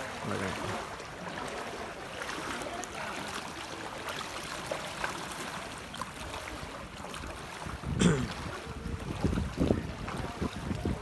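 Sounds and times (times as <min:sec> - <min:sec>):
moving floodwater: 0:00.0 - 0:11.0.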